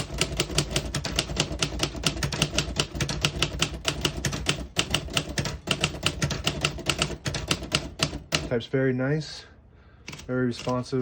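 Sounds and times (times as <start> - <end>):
manual typewriter keystrokes: 0.0 - 8.5, 10.0 - 11.0.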